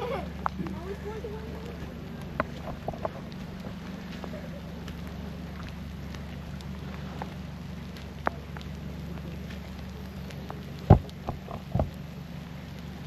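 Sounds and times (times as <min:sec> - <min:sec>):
raindrop ticks: 0:00.0 - 0:13.0
steady low rumble: 0:00.0 - 0:13.0.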